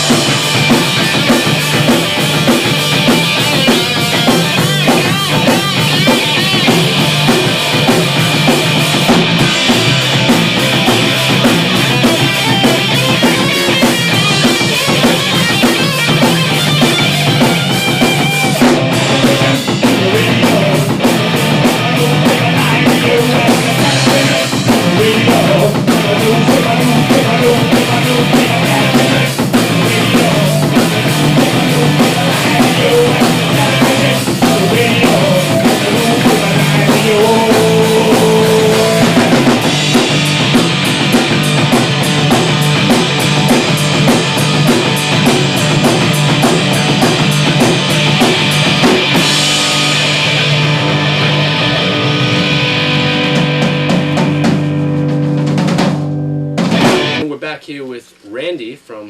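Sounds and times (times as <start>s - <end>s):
rock band playing: 0.0s - 57.4s.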